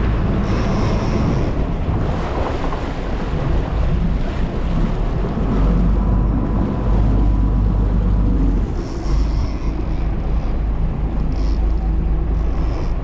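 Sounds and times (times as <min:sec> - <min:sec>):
boat engine drone: 0:00.0 - 0:13.0
sea water around hull: 0:00.0 - 0:13.0
wind buffeting microphone: 0:00.0 - 0:13.0.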